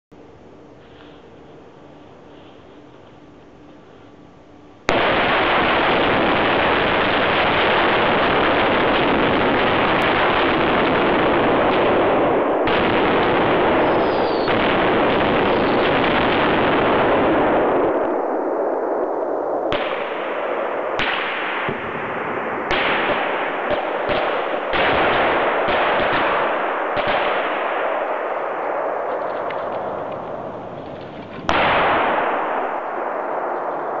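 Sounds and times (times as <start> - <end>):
fire roaring: 4.9 - 19.9, 20.5 - 34.0
fire cracks: 4.9 - 34.0.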